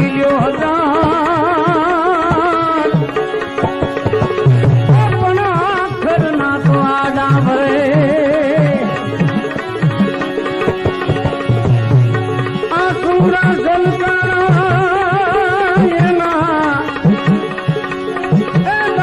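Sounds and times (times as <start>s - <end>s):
tabla rhythm: 0.0s - 19.0s.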